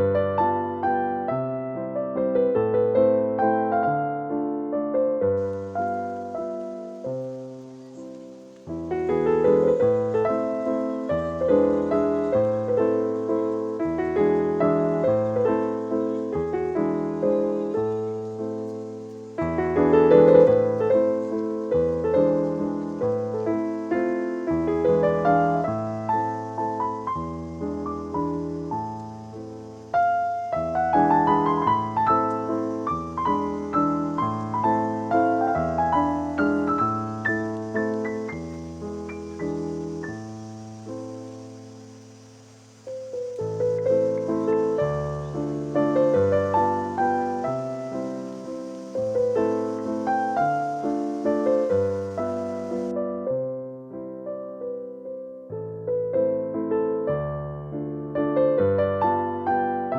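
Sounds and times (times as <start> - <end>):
slow piano music: 0.0 - 59.9.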